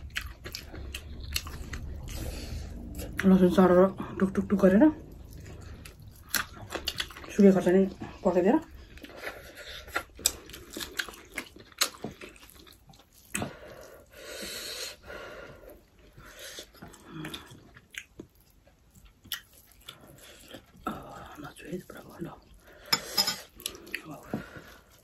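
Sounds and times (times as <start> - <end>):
people chewing food: 0.0 - 25.0.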